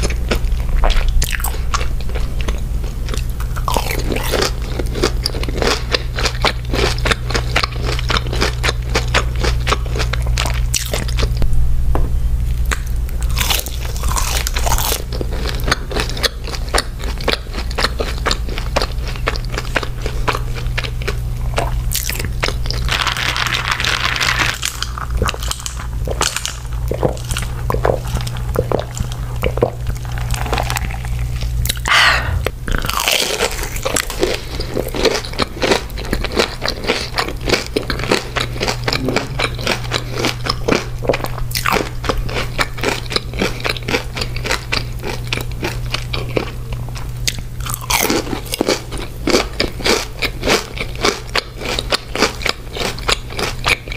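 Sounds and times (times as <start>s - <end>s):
crunching and chewing fried chicken: 0.0s - 11.4s, 12.4s - 53.9s
steady low hum: 0.0s - 53.9s.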